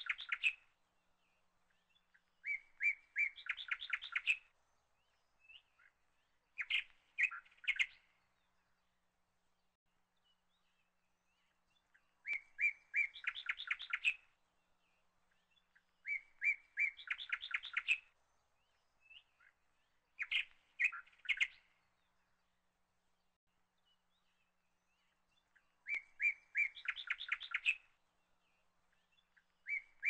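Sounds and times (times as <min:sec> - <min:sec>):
small bird singing: 0:00.0 - 0:30.0.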